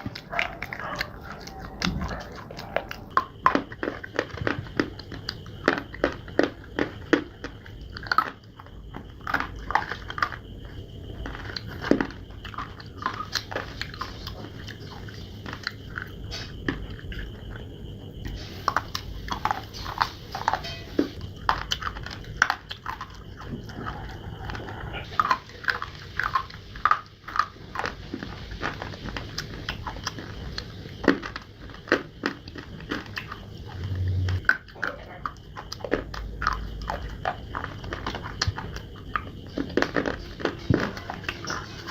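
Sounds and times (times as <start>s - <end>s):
crunchy chewing: 0.0s - 41.9s.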